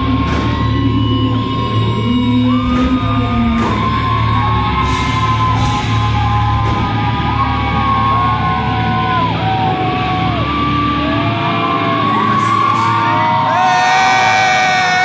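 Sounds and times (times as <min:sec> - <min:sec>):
bass guitar: 0:00.0 - 0:15.0
drums: 0:00.0 - 0:15.0
guitars with bending notes: 0:00.0 - 0:15.0.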